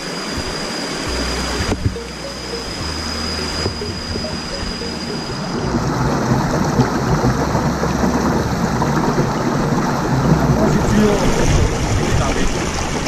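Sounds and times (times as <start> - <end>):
river rushing over stones: 0.0 - 13.0
low rumble: 0.4 - 13.0.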